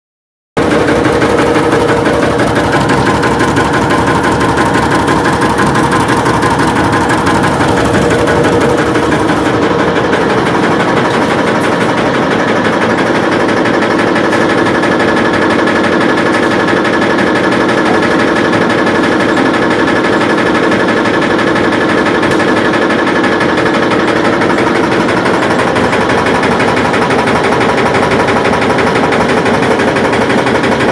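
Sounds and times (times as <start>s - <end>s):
vehicle engine knocking: 0.6s - 30.9s.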